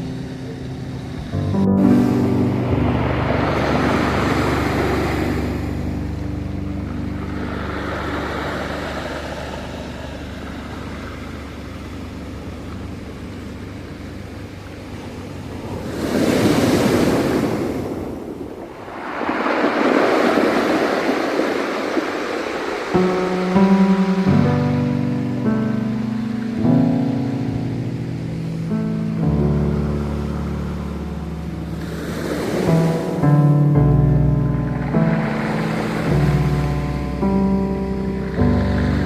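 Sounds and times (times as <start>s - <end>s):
ocean waves washing ashore: 0.0s - 39.0s.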